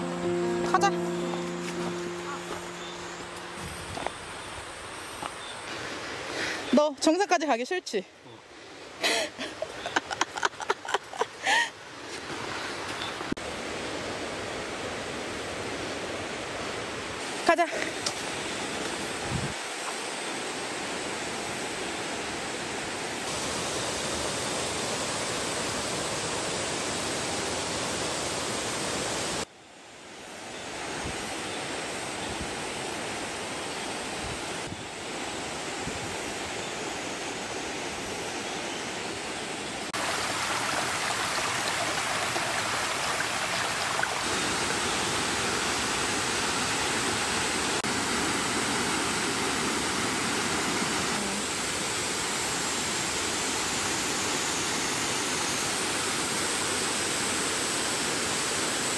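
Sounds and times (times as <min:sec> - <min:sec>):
stream and waterfall rushing: 0:00.0 - 0:58.9.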